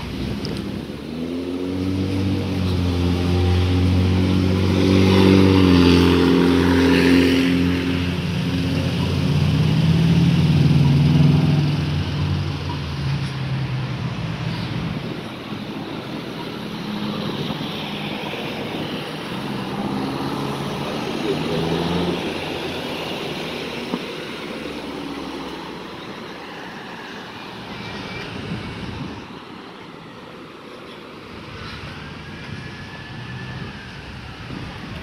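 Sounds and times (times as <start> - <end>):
car engines pulling away: 0.0 - 35.0
vehicles passing with tyre noise: 0.0 - 35.0.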